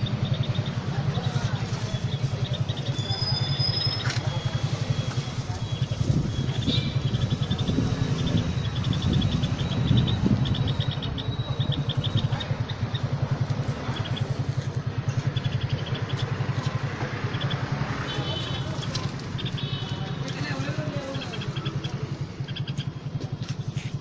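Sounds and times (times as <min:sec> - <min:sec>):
bird chirping sharply: 0:00.0 - 0:23.0
engine idling: 0:00.0 - 0:24.0.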